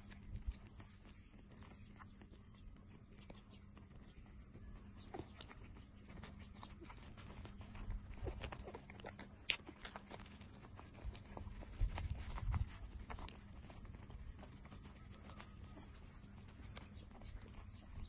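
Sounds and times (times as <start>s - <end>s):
puppies suckling: 0.0s - 18.0s.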